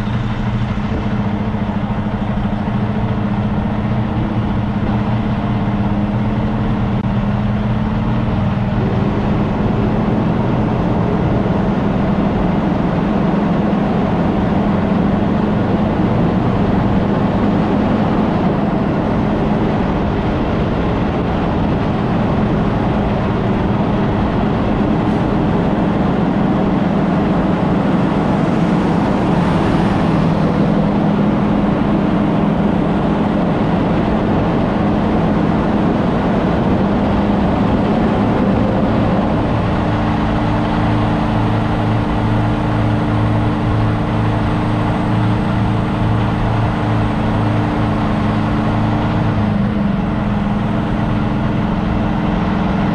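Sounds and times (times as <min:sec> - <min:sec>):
diesel truck engine drone: 0:00.0 - 0:52.9
road and tyre noise: 0:00.0 - 0:52.9.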